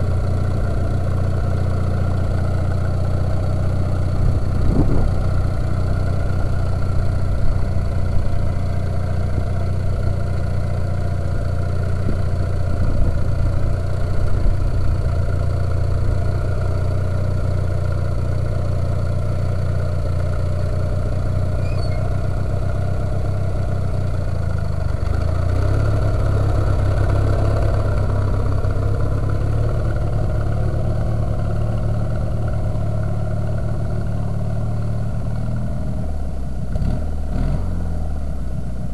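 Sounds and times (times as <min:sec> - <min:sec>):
garden tractor engine running: 0:00.0 - 0:36.5.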